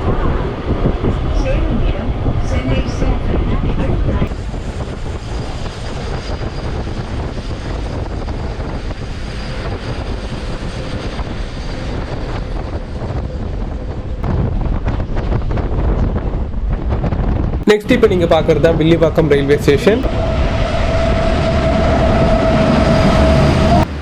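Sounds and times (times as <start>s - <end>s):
train wheels rumbling on track: 0.0s - 24.0s
wind noise on microphone: 0.0s - 24.0s.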